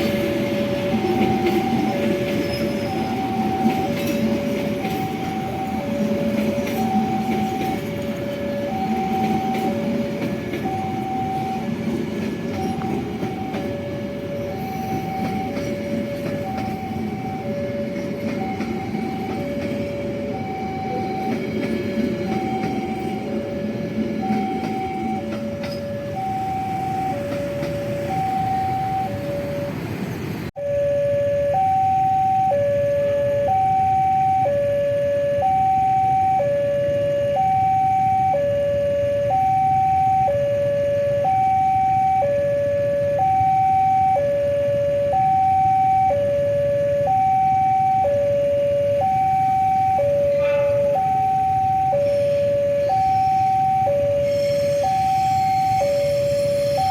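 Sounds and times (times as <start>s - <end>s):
level-crossing alarm ringing: 0.0s - 56.9s
passing train rumble: 0.0s - 56.9s.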